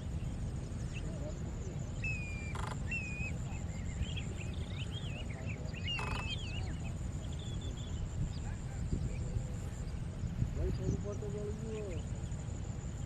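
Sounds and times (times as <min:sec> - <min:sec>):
water birds calling: 0:00.0 - 0:12.6
steady low rumble: 0:00.0 - 0:13.0.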